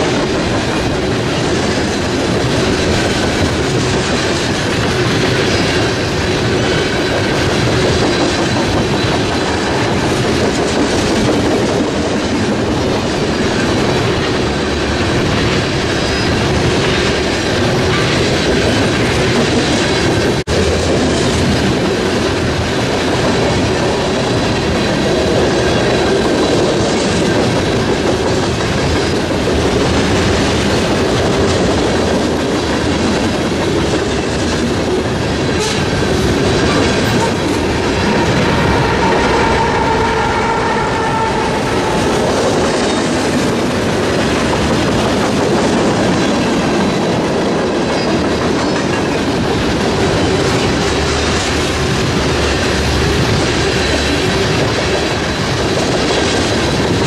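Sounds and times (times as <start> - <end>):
wheels clacking over rail joints: 0.0 - 57.0.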